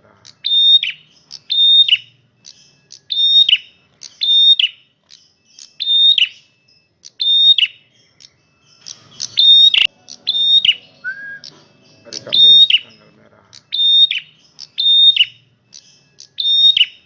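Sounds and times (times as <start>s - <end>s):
bird whistle calls: 0.3s - 17.0s.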